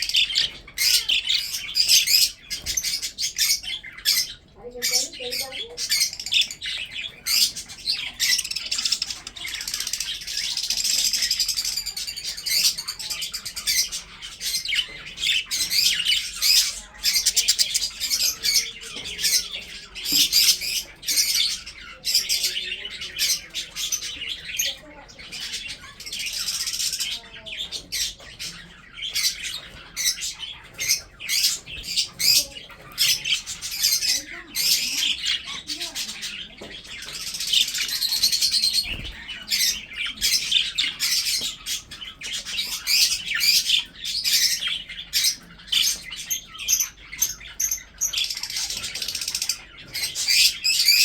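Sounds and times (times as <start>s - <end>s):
budgerigars chattering: 0.0s - 51.0s.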